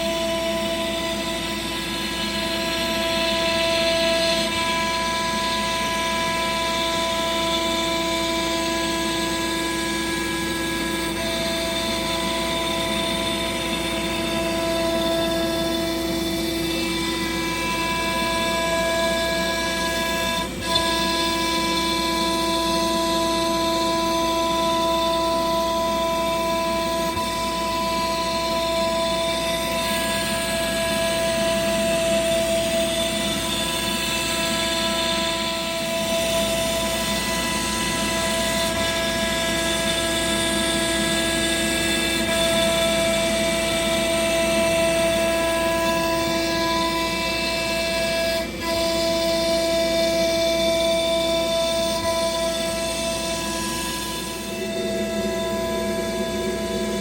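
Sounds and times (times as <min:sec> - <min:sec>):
machine whine: 0:00.0 - 0:57.0.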